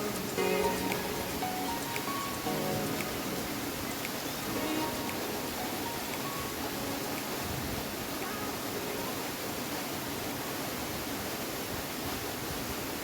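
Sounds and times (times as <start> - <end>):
waterfall roar: 0.0 - 13.0.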